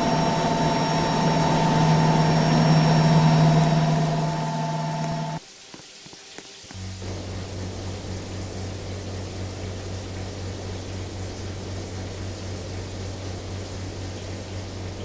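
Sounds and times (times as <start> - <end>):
air conditioner running: 0.0 - 5.4, 6.8 - 15.0.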